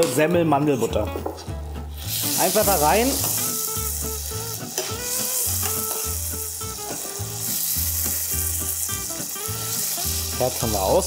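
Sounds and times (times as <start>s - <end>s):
background music with beat: 0.0s - 11.0s
dumplings sizzling in butter: 1.9s - 11.0s.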